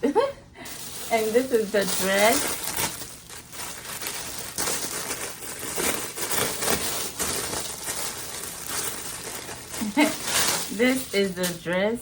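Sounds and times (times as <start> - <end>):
fabric rustling: 0.6 - 11.8
packaging crinkling: 0.6 - 11.8.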